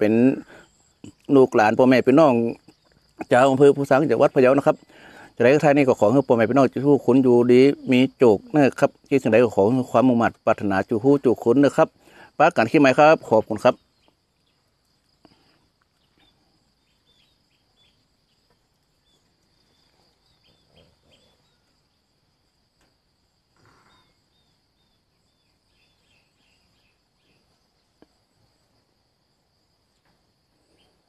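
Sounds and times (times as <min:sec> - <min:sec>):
faint chirps: 0:00.0 - 0:31.0
faint insect drone: 0:00.0 - 0:31.0.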